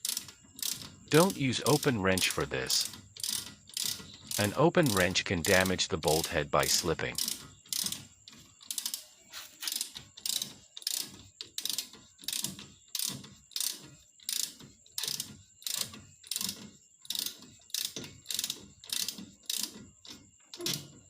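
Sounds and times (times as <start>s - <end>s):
ratchet wrench clicking: 0.0s - 21.0s.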